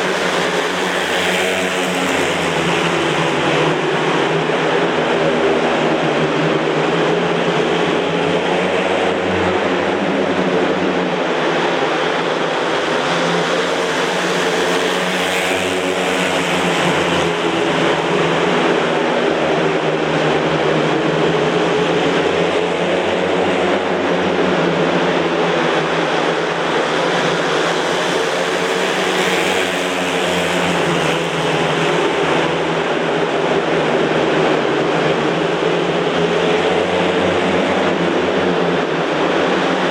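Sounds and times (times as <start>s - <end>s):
motorcycles racing at high revs: 0.0s - 39.9s.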